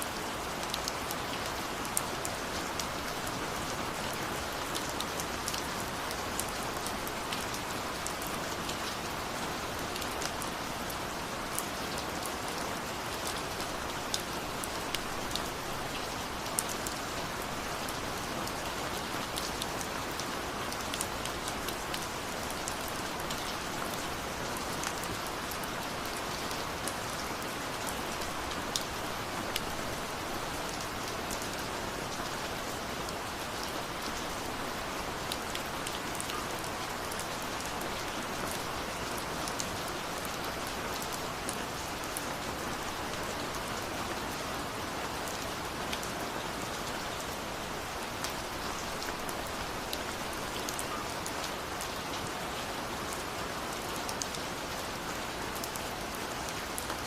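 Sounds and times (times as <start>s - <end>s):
rain falling: 0.0s - 57.0s
raindrops ticking and pattering: 0.0s - 57.0s.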